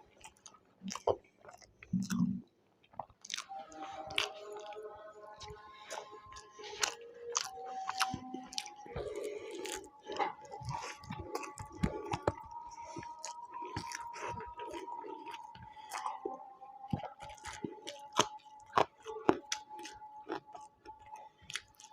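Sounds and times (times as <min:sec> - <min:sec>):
chewing and crunching food: 0:00.0 - 0:21.9
background music: 0:03.3 - 0:21.9.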